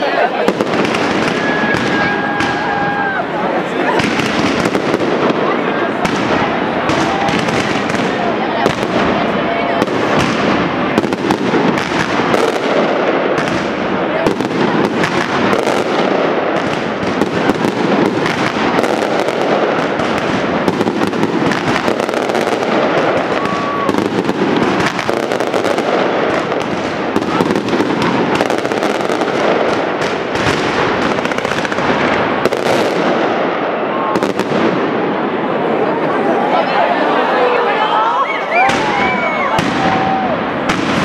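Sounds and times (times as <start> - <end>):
fireworks bangs and crackles: 0.0 - 37.8, 38.4 - 41.0.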